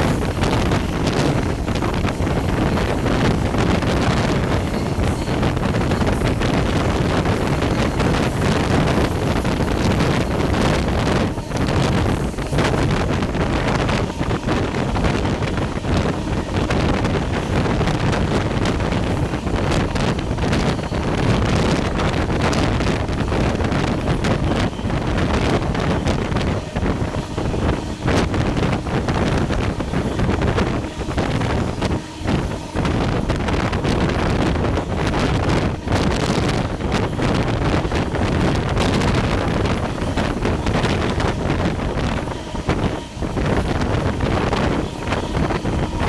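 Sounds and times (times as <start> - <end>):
passenger train rumbling on track: 0.0 - 46.0
wind buffeting microphone: 0.0 - 46.0.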